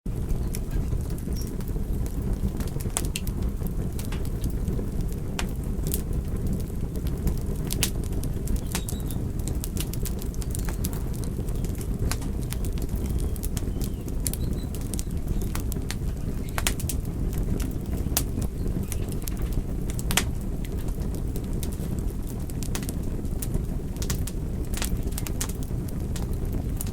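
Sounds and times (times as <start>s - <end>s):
fire rumbling: 0.1s - 26.9s
logs crackling and popping: 0.1s - 26.9s.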